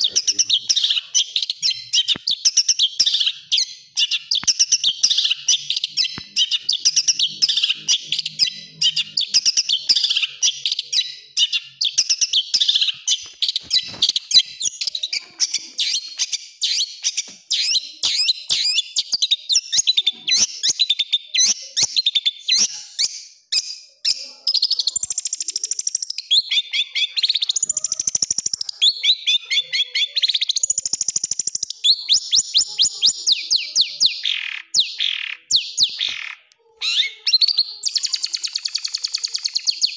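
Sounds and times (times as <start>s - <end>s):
bird chattering and trilling: 0.0s - 39.9s.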